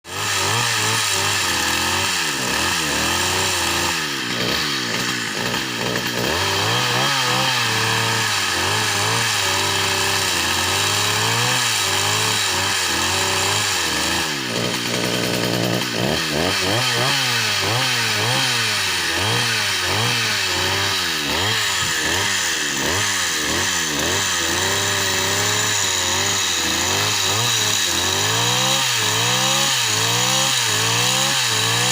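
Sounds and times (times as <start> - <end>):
engine-driven machine running: 0.6 - 31.9.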